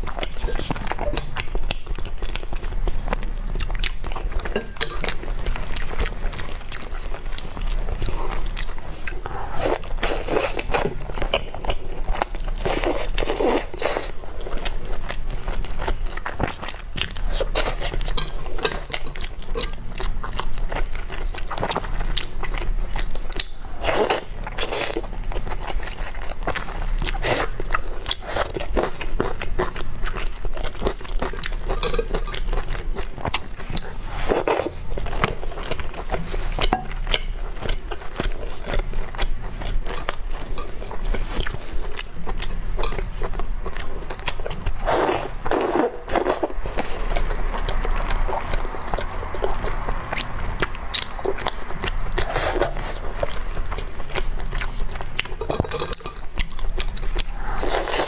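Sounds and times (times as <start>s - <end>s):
person chewing wetly: 0.0s - 58.0s.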